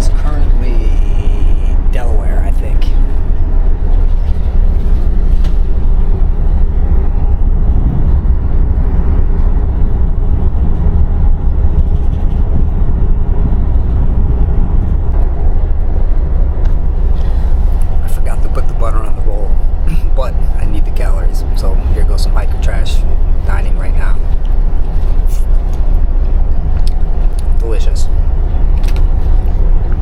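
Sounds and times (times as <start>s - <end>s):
train car rumbling: 0.0s - 30.0s.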